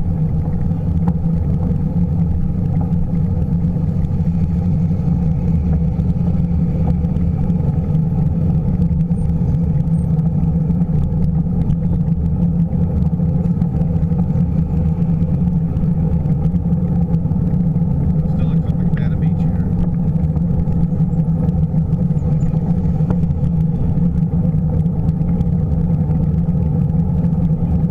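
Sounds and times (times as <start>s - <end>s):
road traffic: 0.0s - 27.9s.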